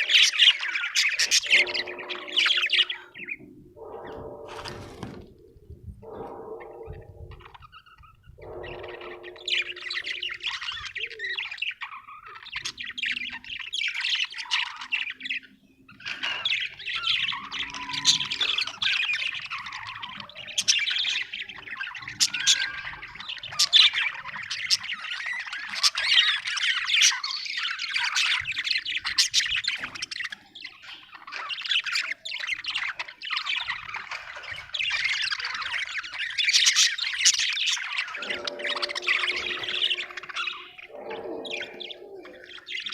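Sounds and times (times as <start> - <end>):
parrots chattering and squawking: 0.0 - 42.9.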